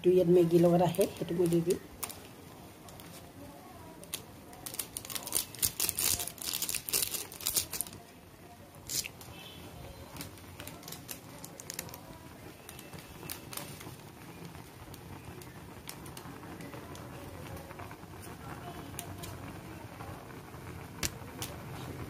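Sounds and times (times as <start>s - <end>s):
pot boiling bubbling hiss: 0.0s - 22.0s.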